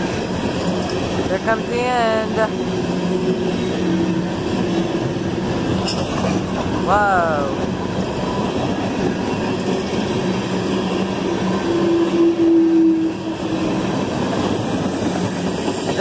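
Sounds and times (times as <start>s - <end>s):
freight train wheels clattering: 0.0s - 6.9s, 7.6s - 16.0s.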